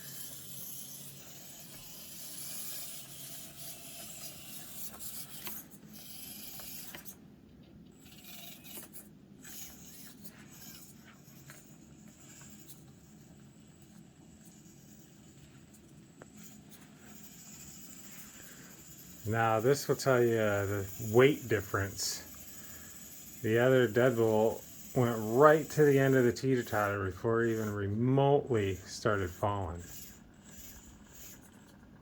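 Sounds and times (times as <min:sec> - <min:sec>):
toy crawler tyres scraping: 0:00.0 - 0:07.2, 0:07.8 - 0:32.0.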